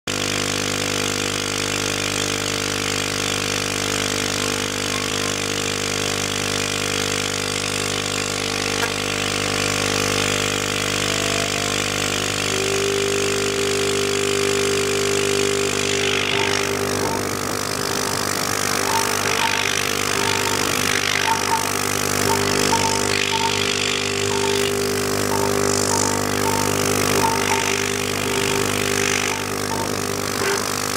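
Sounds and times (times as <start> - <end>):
router spindle milling metal: 1.4 - 30.9
stepper motor axes moving: 4.0 - 6.6, 8.1 - 30.9.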